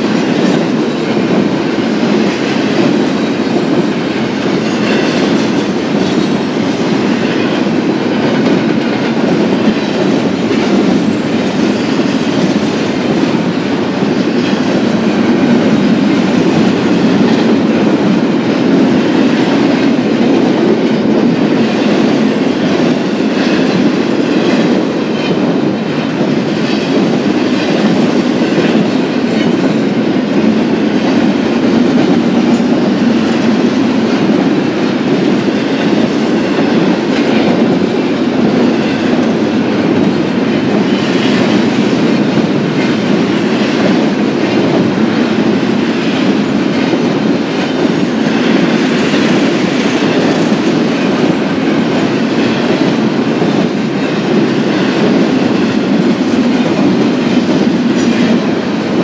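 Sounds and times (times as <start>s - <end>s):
clickety-clack of wheels: 0.0s - 59.0s
train wheels rumbling on rail: 0.0s - 59.0s.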